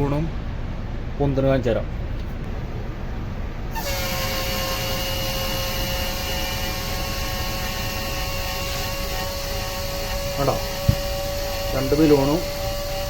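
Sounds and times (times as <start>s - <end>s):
compressed air hissing: 2.5s - 13.0s.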